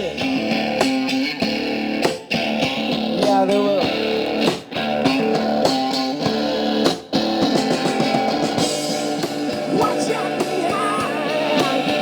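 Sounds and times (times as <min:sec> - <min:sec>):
rock band with electric guitar: 0:00.0 - 0:12.0.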